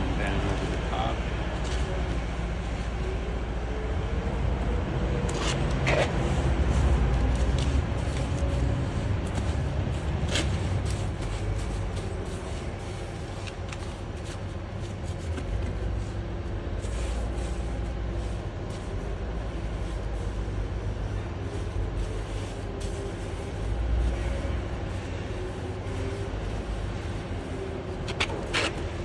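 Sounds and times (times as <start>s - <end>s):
parking garage rumble: 0.0s - 29.0s.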